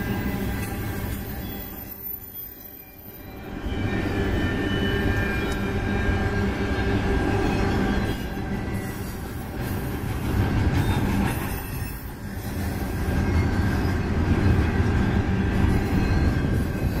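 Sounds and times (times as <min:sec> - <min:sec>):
steel wheels rumbling on rails: 0:00.0 - 0:17.0.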